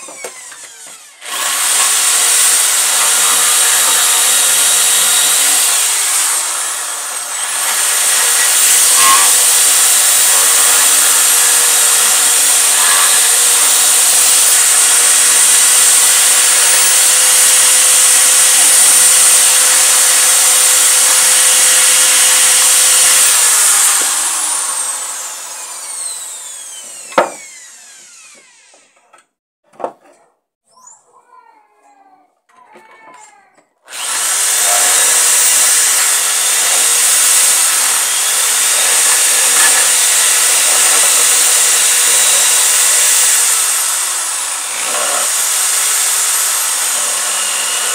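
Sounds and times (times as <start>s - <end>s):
electric drill boring wood: 0.0s - 29.1s, 33.9s - 47.9s.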